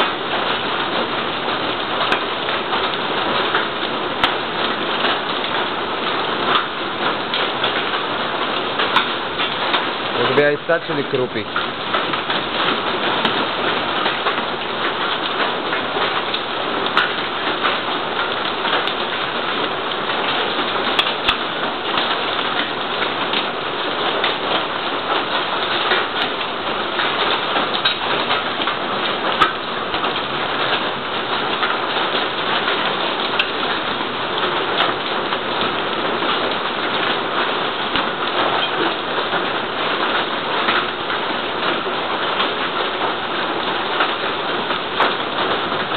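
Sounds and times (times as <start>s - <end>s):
heavy rain pouring: 0.0s - 45.9s
raindrops ticking on hard surfaces: 0.0s - 45.9s.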